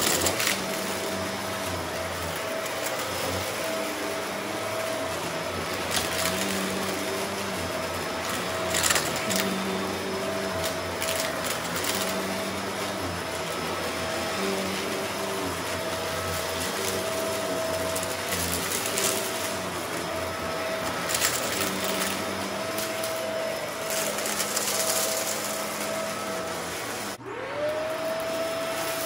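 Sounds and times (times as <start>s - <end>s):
upright vacuum cleaner running: 0.0s - 29.0s
vacuum rattling: 0.0s - 29.0s.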